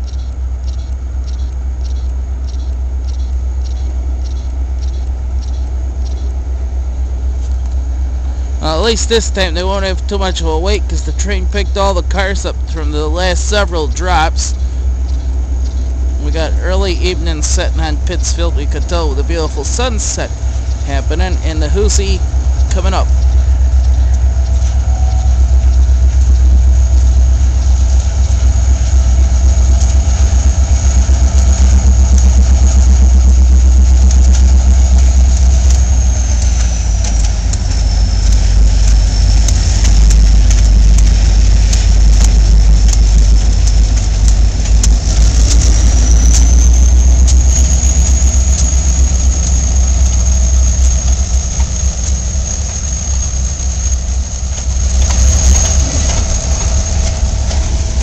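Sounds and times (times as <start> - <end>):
diesel locomotive engine idling: 0.0 - 58.0
thin high whine: 0.0 - 58.0.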